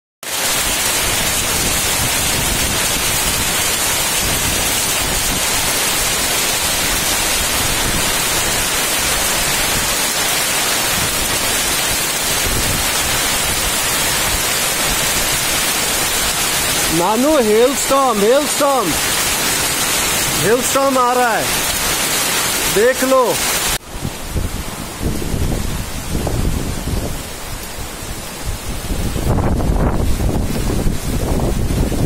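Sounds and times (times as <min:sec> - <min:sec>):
hail and heavy rain pelting: 0:00.3 - 0:32.0.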